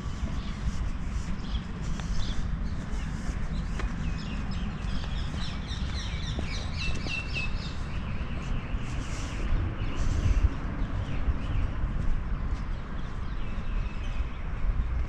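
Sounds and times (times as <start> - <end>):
low rumble on microphone: 0.0 - 15.0
small birds chirping: 0.0 - 15.0.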